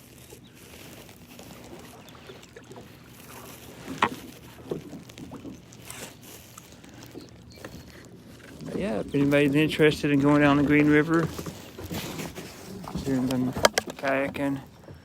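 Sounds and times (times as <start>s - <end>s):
paddle strokes in water: 0.0s - 15.0s
paddle knocking on hull: 0.5s - 15.0s.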